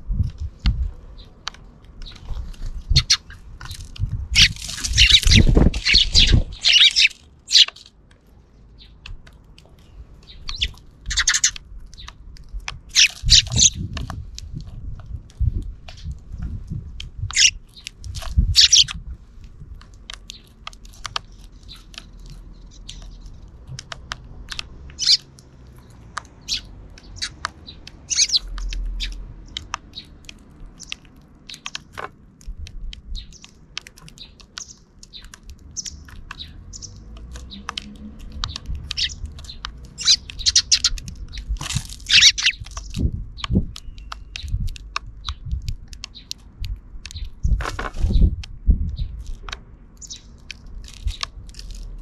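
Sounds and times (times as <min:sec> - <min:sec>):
sparrows chirping: 0:00.1 - 0:14.6, 0:15.4 - 0:52.0.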